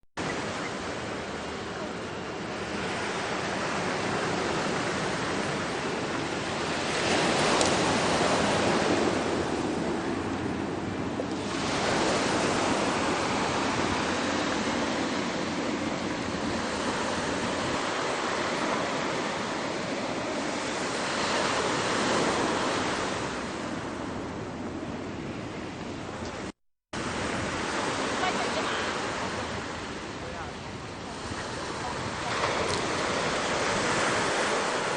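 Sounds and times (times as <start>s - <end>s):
waves breaking on shore: 0.2s - 34.9s.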